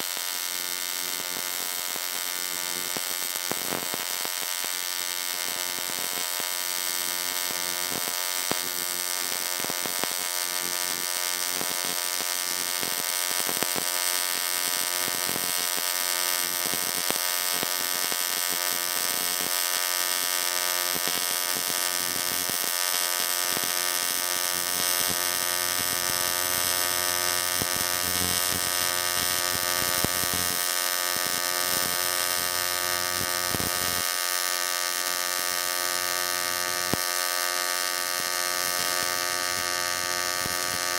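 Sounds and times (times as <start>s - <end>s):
welding arc buzzing: 0.0s - 40.9s.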